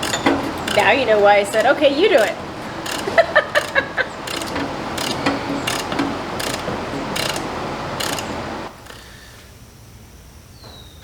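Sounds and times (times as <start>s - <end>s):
ratchet wrench clicking: 0.0s - 9.0s.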